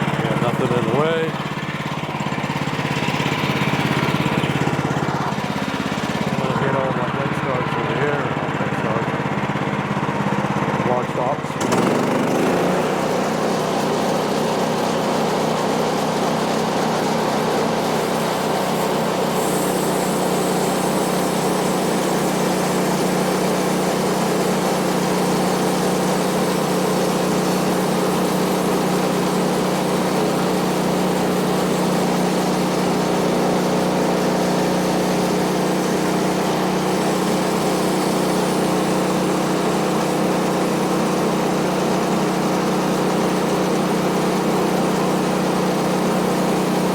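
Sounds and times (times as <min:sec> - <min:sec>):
band saw cutting log: 0:00.0 - 0:09.1, 0:10.8 - 0:46.9
gasoline engine running: 0:00.0 - 0:46.9.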